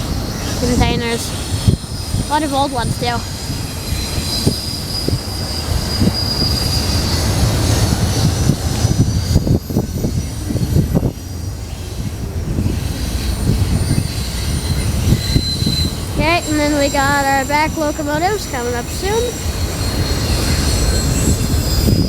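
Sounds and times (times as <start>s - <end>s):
high wheel squeal: 0.0s - 22.0s
train wheels rumbling on rail: 0.0s - 22.0s.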